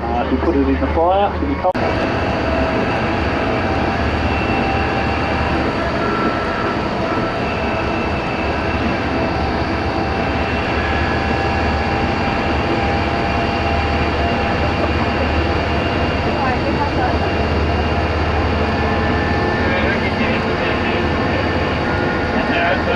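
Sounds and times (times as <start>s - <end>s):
vehicle engine and running noise: 0.0s - 22.9s.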